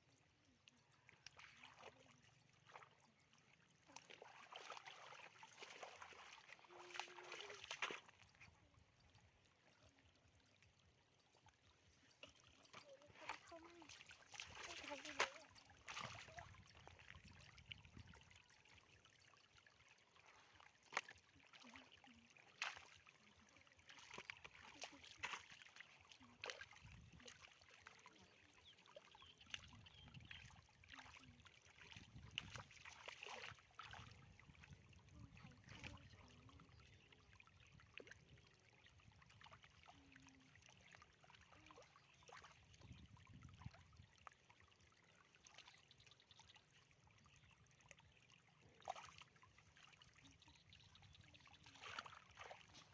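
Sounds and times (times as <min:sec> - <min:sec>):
shallow water sloshing and trickling: 0:00.0 - 0:52.9
short water splashes: 0:00.9 - 0:52.9.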